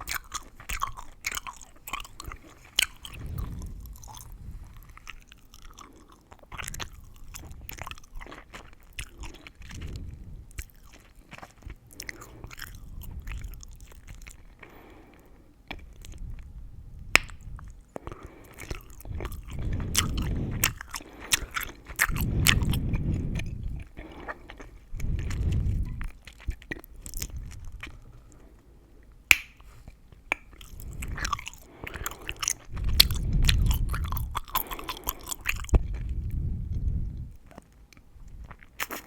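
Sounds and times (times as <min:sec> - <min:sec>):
gum crackles and snaps: 0:00.0 - 0:14.6, 0:17.0 - 0:28.0, 0:29.3 - 0:36.2, 0:37.4 - 0:39.0
gum chewing: 0:00.0 - 0:16.5, 0:17.1 - 0:28.4, 0:29.3 - 0:39.0.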